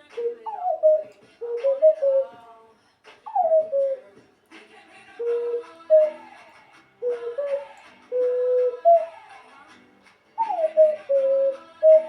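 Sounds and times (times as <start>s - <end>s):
pop song: 0.0s - 12.0s.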